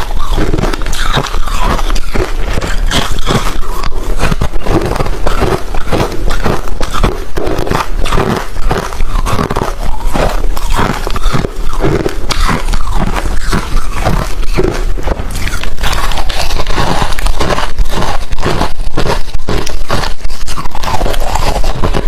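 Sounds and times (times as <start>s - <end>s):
crunching ice being chewed: 0.0s - 22.0s.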